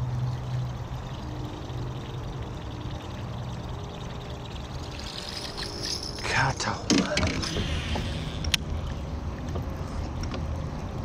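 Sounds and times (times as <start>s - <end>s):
fishing reel humming: 0.0s - 9.2s
gurgling churning water: 0.0s - 11.0s.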